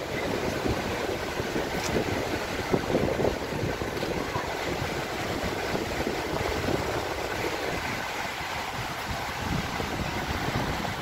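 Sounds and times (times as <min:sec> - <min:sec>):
river running over stones: 0:00.0 - 0:11.0.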